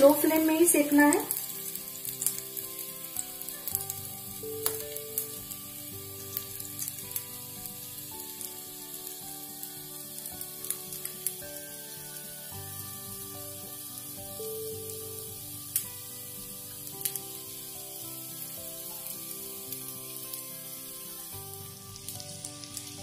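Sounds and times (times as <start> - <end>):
kebabs sizzling in oil: 0.0 - 23.0
soft background music: 0.0 - 23.0.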